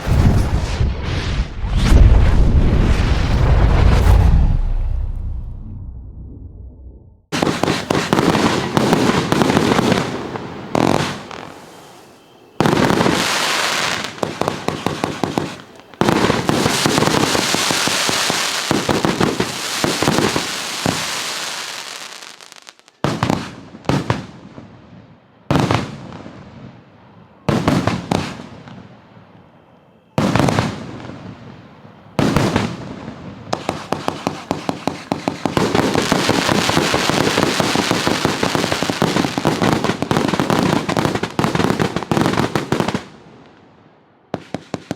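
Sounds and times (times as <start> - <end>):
fireworks launch shots and crackling: 0.0 - 6.3, 7.3 - 24.9, 25.5 - 26.8, 27.4 - 29.0, 30.2 - 31.6, 32.2 - 43.7, 44.3 - 44.9.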